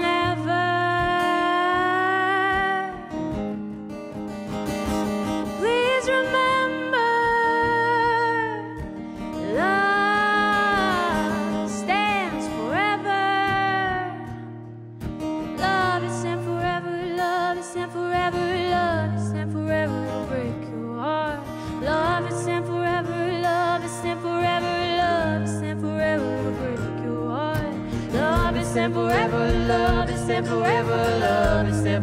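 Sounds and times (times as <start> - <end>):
woman singing: 0.0 - 3.4, 5.5 - 14.5, 15.4 - 32.0
acoustic guitar: 0.0 - 32.0
mandolin: 0.0 - 32.0.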